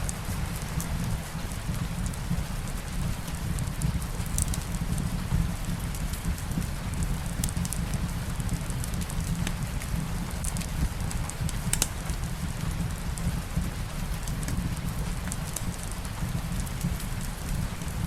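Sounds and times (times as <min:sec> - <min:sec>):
steady rain: 0:00.0 - 0:18.0
wood fire crackling: 0:00.0 - 0:18.0.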